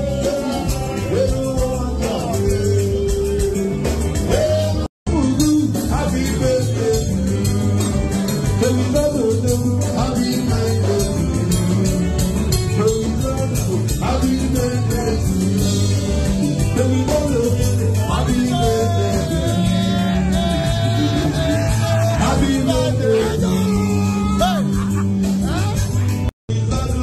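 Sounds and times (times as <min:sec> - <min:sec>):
drum beat: 0:00.0 - 0:26.3
bass: 0:00.0 - 0:27.0
electric guitar: 0:00.0 - 0:27.0
person singing: 0:00.0 - 0:27.0.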